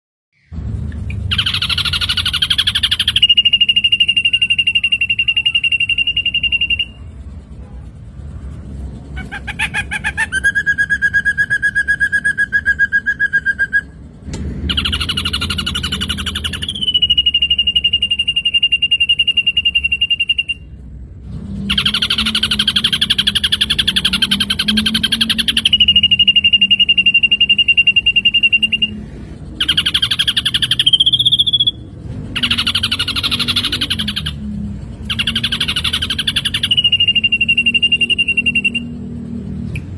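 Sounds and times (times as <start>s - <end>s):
bird singing whistles and trills: 0.4s - 7.2s, 9.2s - 14.0s, 14.7s - 20.9s, 21.6s - 39.9s.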